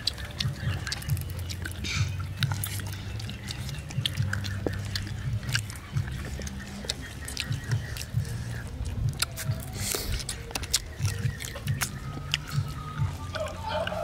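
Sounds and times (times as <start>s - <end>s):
people eating meat off skewers: 0.0s - 14.0s
steady low rumble: 0.0s - 14.0s.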